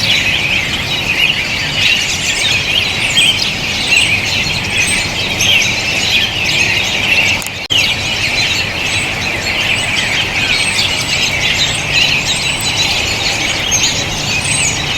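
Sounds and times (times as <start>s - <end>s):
flock of birds calling: 0.0s - 14.9s.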